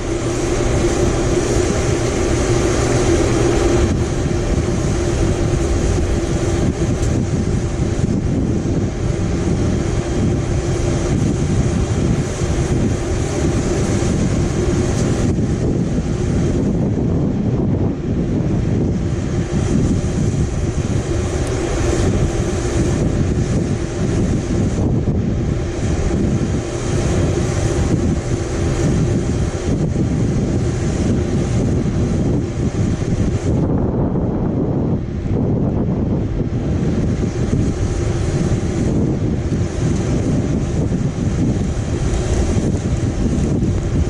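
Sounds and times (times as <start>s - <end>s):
steady low drone: 0.0s - 44.0s
wind buffeting microphone: 0.0s - 44.0s.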